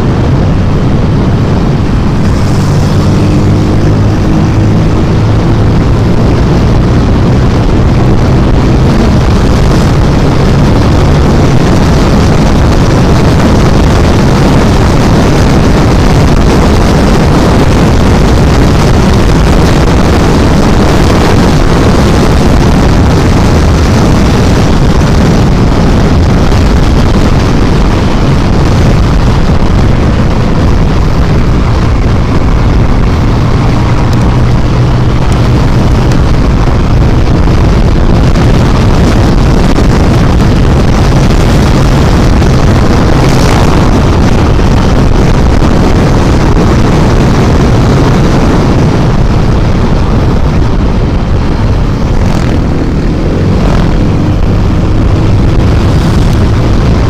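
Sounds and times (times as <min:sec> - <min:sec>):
scooter engine drone: 0:00.0 - 0:57.0
wind noise: 0:00.0 - 0:57.0.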